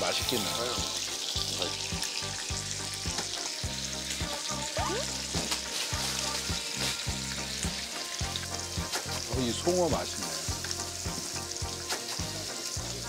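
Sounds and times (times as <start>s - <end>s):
background music with beat: 0.0s - 13.0s
meat sizzling in a pan: 0.0s - 13.0s.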